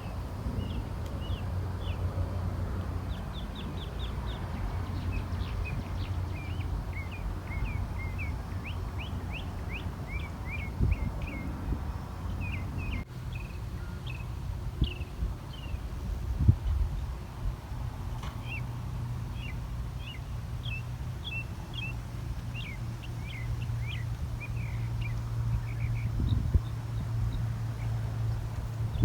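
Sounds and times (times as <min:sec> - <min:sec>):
small birds chirping: 0:00.0 - 0:02.0, 0:03.1 - 0:15.8, 0:18.4 - 0:29.0.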